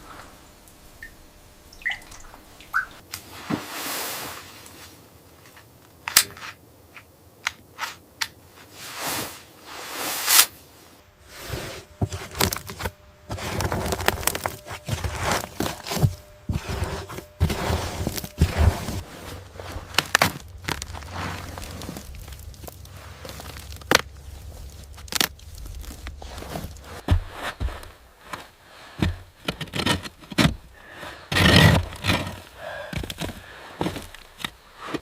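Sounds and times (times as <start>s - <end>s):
rustling scrapes: 3.3s - 5.0s, 7.8s - 35.0s.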